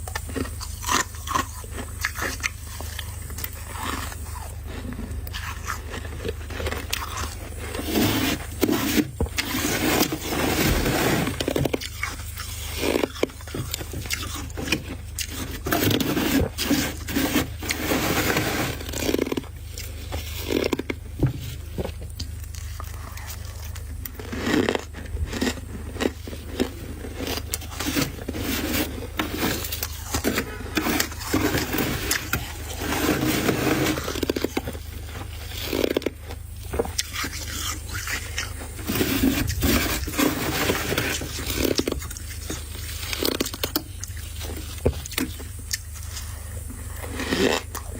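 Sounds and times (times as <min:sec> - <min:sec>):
frost being scraped: 0:00.0 - 0:21.7, 0:22.5 - 0:47.9
low hum: 0:00.0 - 0:47.9.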